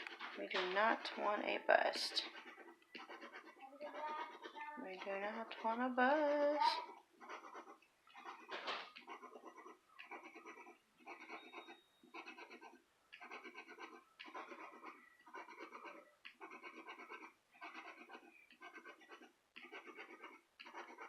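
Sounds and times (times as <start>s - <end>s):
scratching lottery ticket: 0.0s - 21.0s.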